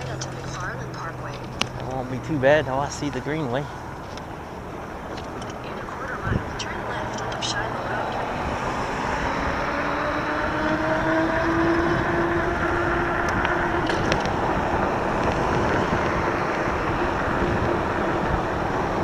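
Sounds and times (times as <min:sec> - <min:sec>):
wind and tyre noise: 0:00.0 - 0:19.0.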